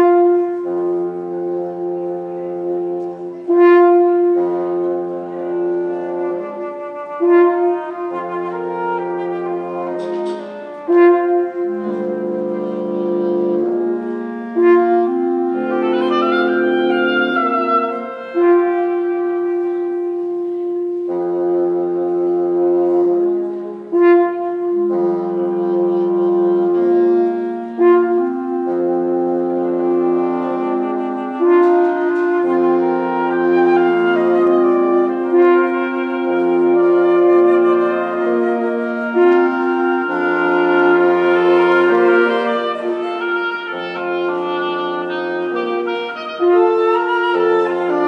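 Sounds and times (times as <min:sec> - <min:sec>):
woodwind quintet playing chords: 0:00.0 - 0:48.0.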